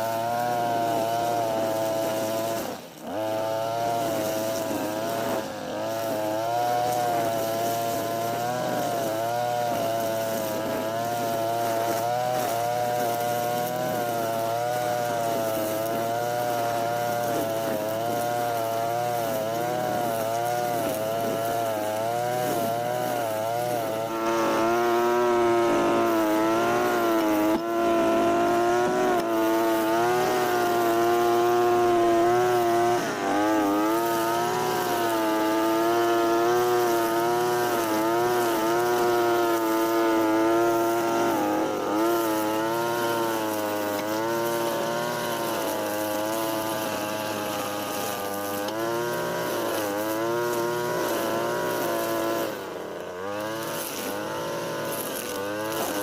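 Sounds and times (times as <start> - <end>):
brush cutter cutting grass: 0.0 - 56.0.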